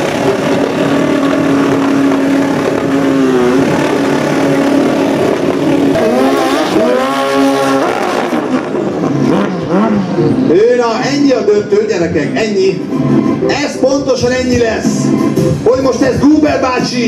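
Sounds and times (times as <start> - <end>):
motorcycle engine revving: 0.0 - 16.6.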